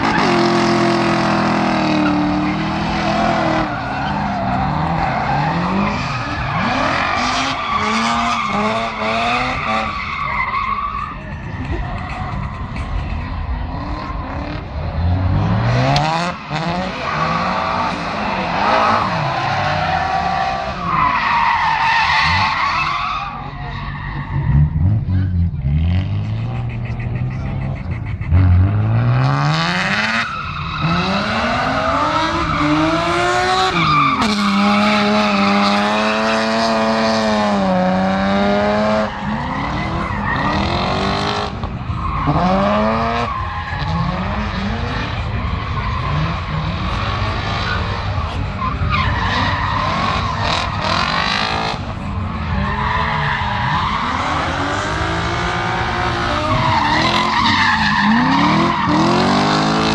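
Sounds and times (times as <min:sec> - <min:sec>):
car engines revving hard: 0:00.0 - 0:59.9
spinning tyres squealing: 0:00.0 - 0:59.9.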